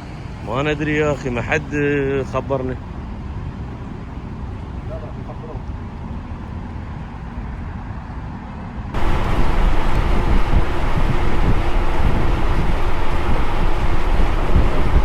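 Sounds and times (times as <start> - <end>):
low engine rumble: 0.0 - 15.0
wind rushing over microphone: 0.0 - 15.0.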